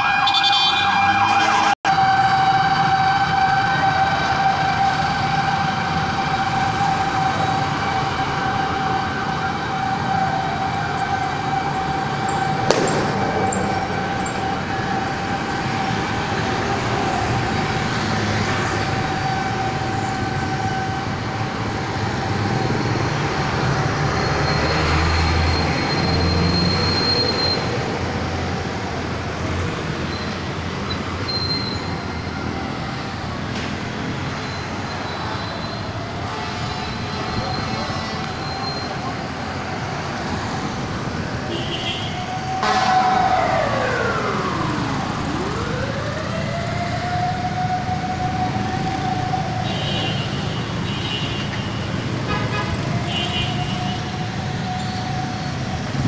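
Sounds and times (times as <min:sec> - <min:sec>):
hum of traffic: 0:00.0 - 0:56.0.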